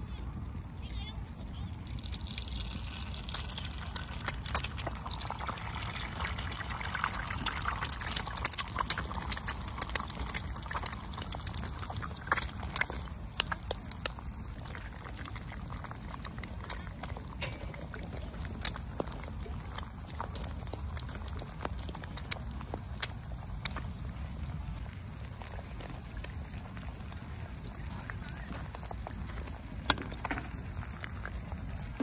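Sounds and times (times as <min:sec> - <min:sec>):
eggs sizzling and popping in oil: 0:00.0 - 0:32.0.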